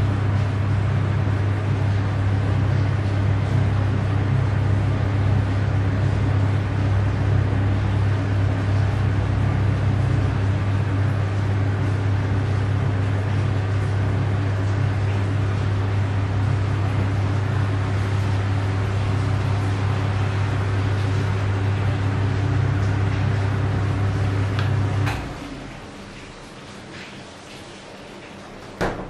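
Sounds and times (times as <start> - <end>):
exhaust fan humming: 0.0 - 29.0.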